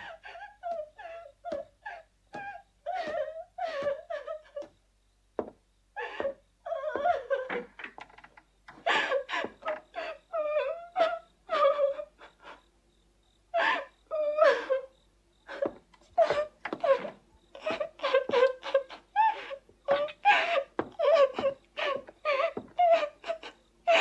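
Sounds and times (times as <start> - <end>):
girl sobbing and wailing: 0.0 - 4.7, 6.0 - 7.7, 8.8 - 12.4, 13.6 - 14.9, 15.5 - 24.0.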